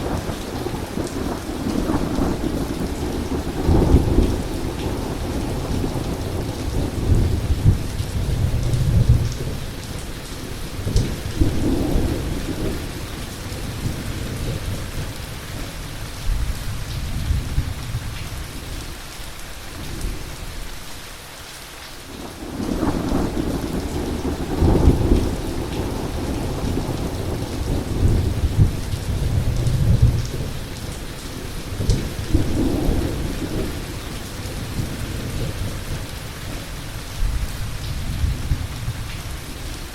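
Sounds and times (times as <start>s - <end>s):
thunder rumbling: 0.0s - 18.7s, 22.2s - 39.9s
heavy rain falling: 0.0s - 39.9s.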